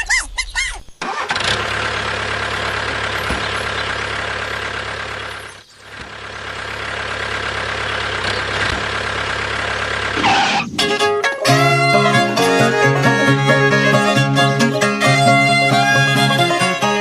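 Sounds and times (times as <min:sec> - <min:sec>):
truck engine running: 0:00.8 - 0:17.0.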